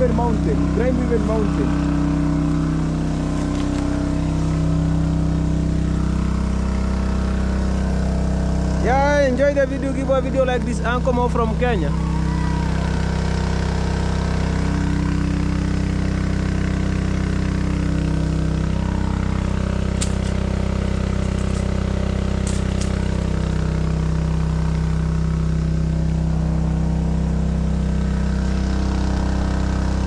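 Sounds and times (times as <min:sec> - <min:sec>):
small engine water pump running: 0:00.0 - 0:30.0.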